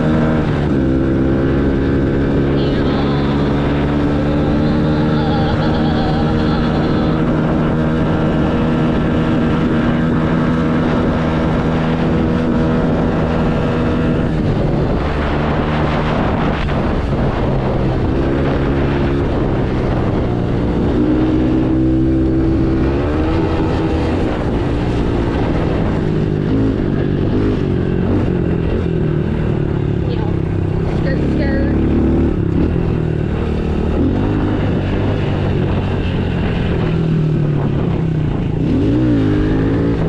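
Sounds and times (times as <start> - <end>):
dirt bike engine revving: 0.0 - 16.7, 20.2 - 40.0.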